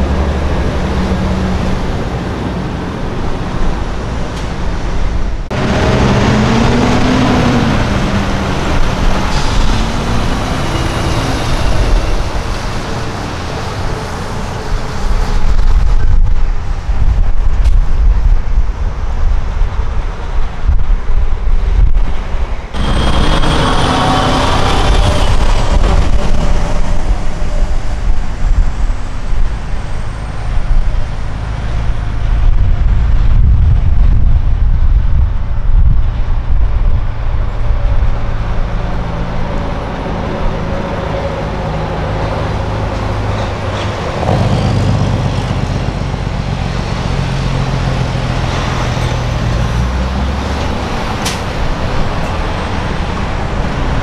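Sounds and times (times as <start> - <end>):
truck diesel engine drone: 0.0 - 17.5, 21.4 - 54.0.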